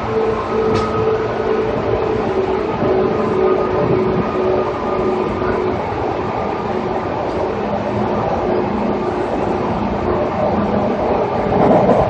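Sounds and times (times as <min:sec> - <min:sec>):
train motor whine: 0:00.0 - 0:12.0
wheels rumbling on rails: 0:00.0 - 0:12.0.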